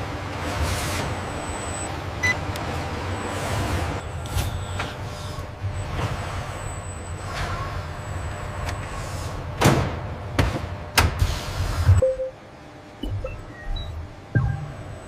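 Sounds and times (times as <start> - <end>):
factory machinery rumbling: 0.0 - 15.0.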